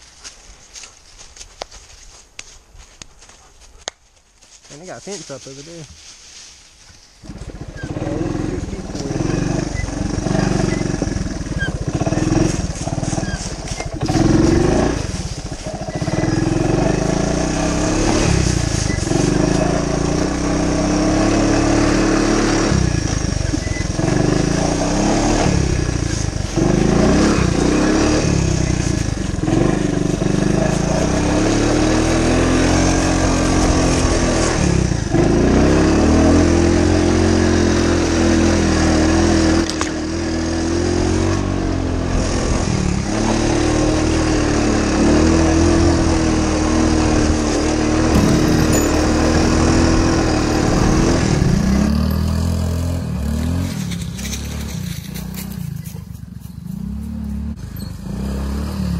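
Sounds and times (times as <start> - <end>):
four-stroke engine revving: 7.2 - 58.9.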